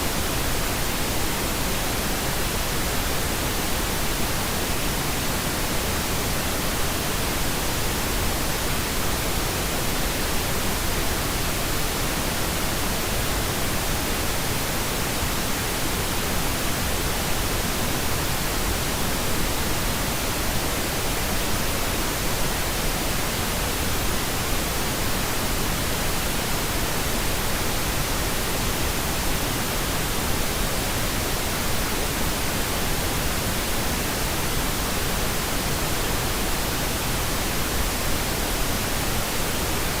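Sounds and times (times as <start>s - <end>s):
white noise machine hiss: 0.0s - 40.0s.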